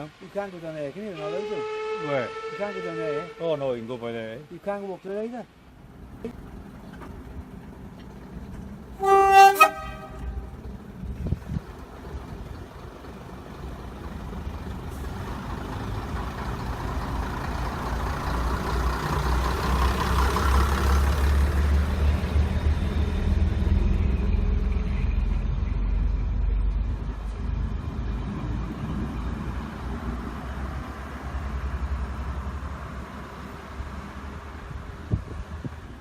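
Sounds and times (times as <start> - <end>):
locomotive engine rumble: 5.5 - 36.0.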